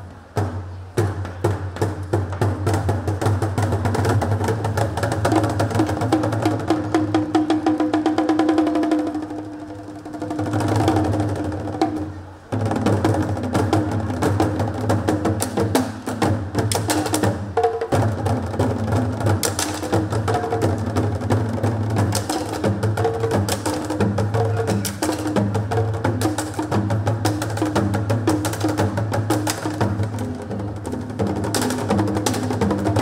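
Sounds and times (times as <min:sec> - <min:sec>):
drum ensemble playing fast rhythm: 0:00.3 - 0:33.0.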